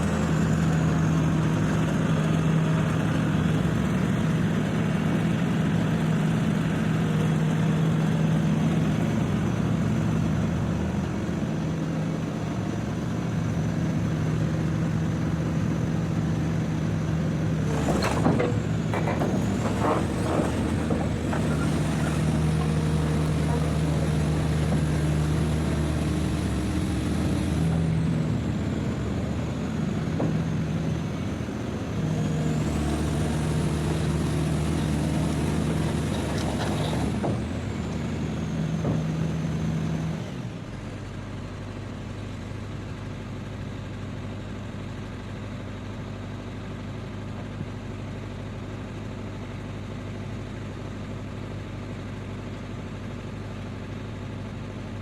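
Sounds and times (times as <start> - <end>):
diesel engine with whine: 0.0 - 55.0.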